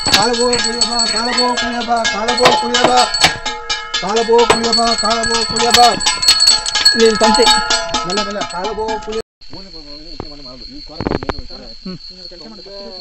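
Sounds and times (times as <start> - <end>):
hand bell ringing rapidly: 0.0 - 13.0.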